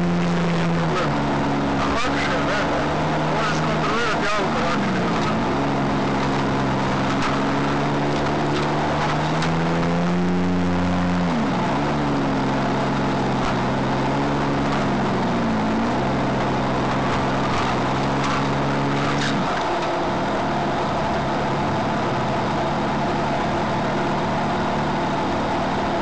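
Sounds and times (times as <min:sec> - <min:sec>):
car engine revving under load: 0:00.0 - 0:26.0.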